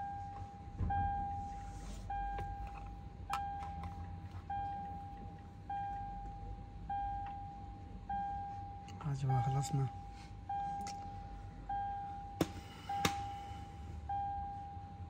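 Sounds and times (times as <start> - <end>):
electronic warning beep: 0.0 - 1.5, 2.1 - 3.9, 4.5 - 13.4, 14.1 - 15.0.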